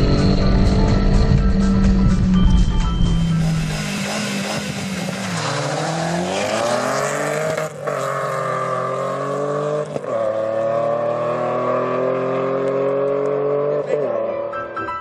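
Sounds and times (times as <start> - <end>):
car engines revving: 0.0 - 14.5.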